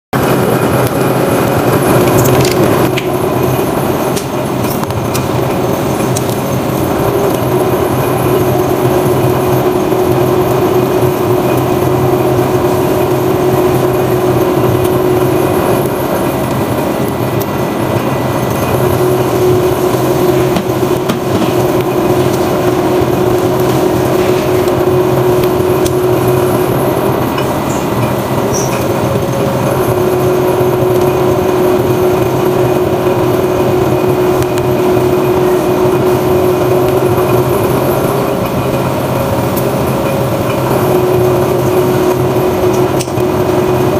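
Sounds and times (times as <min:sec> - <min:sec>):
machine rumble: 0:00.1 - 0:43.9
steady hum: 0:00.1 - 0:43.9.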